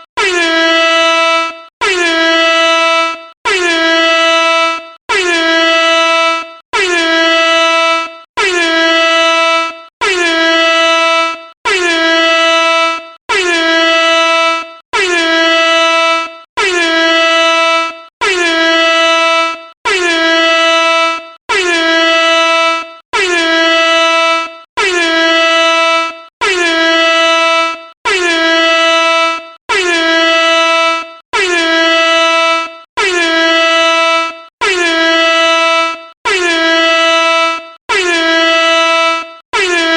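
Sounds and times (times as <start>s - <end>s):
air horn blasts: 0.0s - 39.9s.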